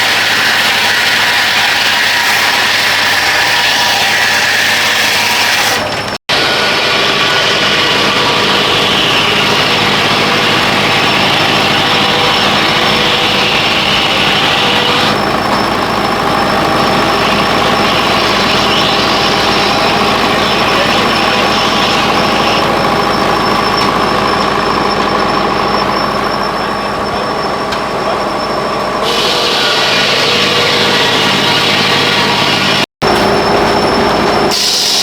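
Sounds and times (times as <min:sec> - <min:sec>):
engine running loudly: 0:05.8 - 0:34.9.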